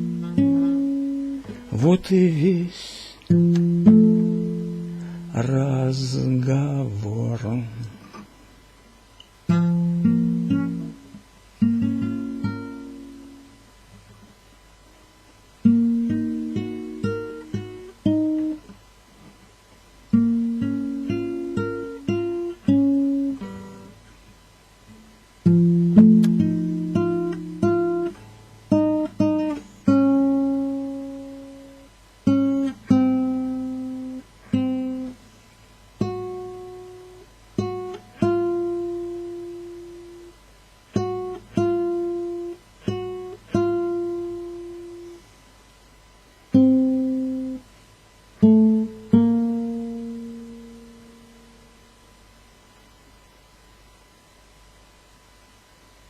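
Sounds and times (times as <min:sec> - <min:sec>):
acoustic guitar: 0:00.0 - 0:08.6, 0:09.2 - 0:15.0, 0:15.6 - 0:45.3, 0:46.4 - 0:52.0.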